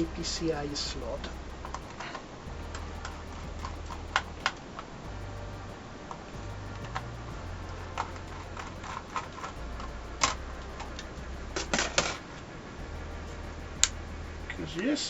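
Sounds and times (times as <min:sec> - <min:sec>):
laptop internals clicking: 0:00.0 - 0:15.0.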